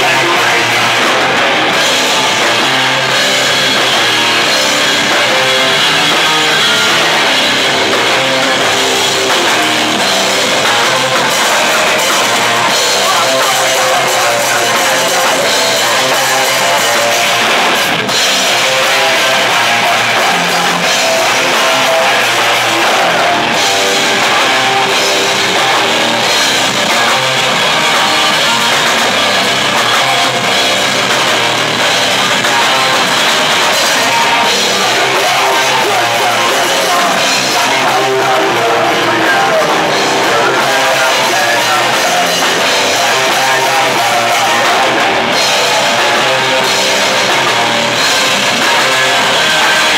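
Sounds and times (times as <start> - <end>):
drum kit: 0.0 - 49.9
electric guitars: 0.0 - 49.9.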